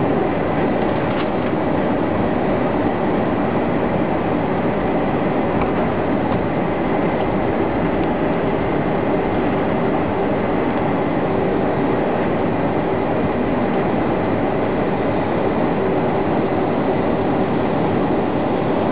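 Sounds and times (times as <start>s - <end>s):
high jet whine: 0.0s - 18.9s
jet airliner rumble: 0.0s - 18.9s.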